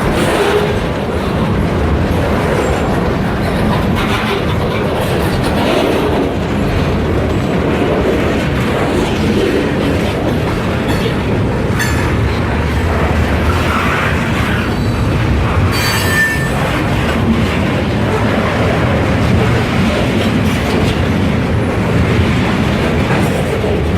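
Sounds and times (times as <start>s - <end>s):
freight train wheels clacking: 0.0s - 23.9s.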